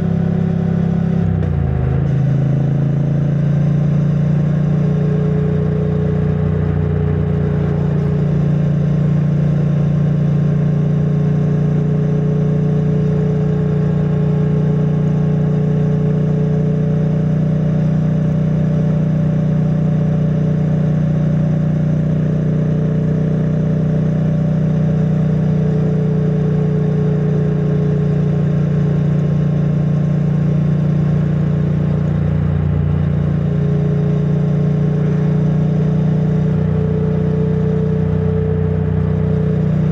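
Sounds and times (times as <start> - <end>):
muffled motorcycle engine running: 0.0 - 39.9.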